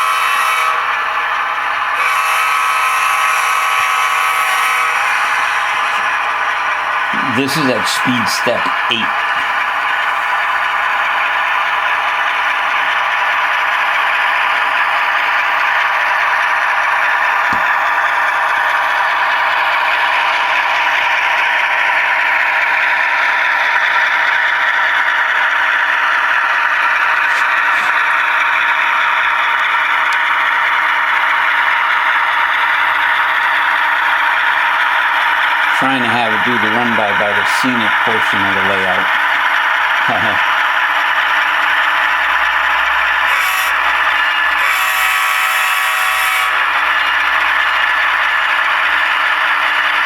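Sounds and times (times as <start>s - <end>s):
model diesel engine sound: 0.0s - 50.0s
model wheels rattling on track: 2.9s - 50.0s.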